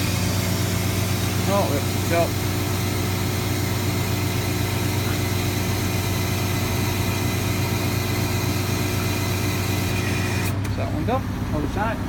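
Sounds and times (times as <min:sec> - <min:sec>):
truck engine idling: 0:00.0 - 0:07.6, 0:08.8 - 0:12.0.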